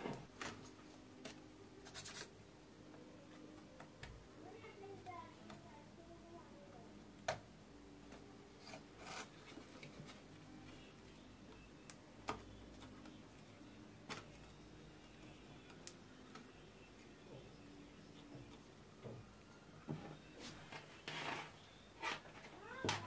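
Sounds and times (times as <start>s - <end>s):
low steady background noise: 0.0s - 23.0s.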